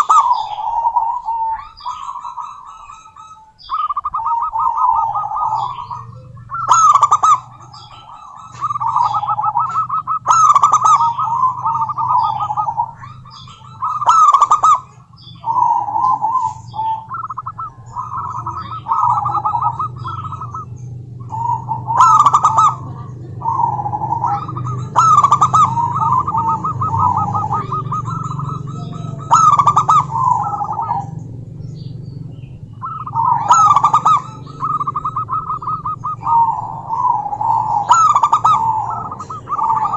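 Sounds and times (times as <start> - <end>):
dove cooing: 0.0 - 39.9
low steady hum: 0.0 - 39.9.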